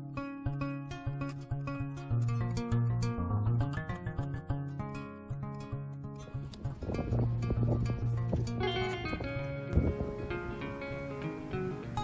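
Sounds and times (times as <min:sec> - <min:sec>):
plucked instrumental music: 0:00.0 - 0:12.0.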